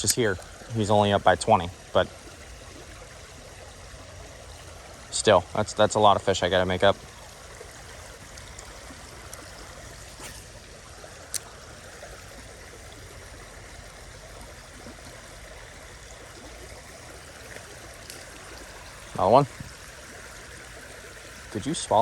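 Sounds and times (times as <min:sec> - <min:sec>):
creek water running over spillway: 0:00.0 - 0:22.0.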